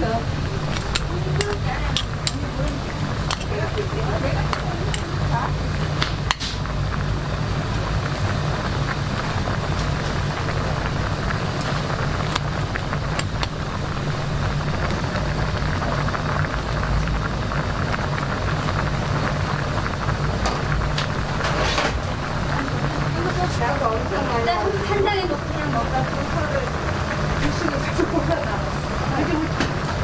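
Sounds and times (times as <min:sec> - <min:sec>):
low steady hum: 0:00.0 - 0:30.0
pot boiling and spitting: 0:00.0 - 0:30.0.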